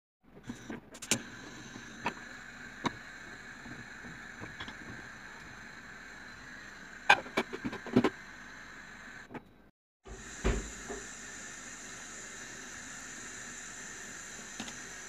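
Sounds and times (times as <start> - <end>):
steady hiss: 0.6 - 9.3, 10.1 - 15.0.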